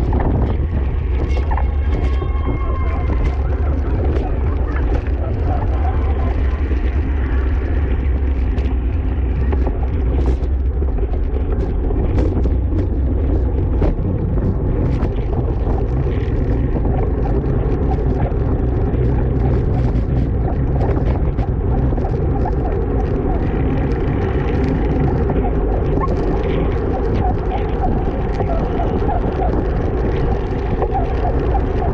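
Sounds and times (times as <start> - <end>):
small clicks and ticks: 0.0 - 31.9
wind rushing over microphone: 0.0 - 31.9.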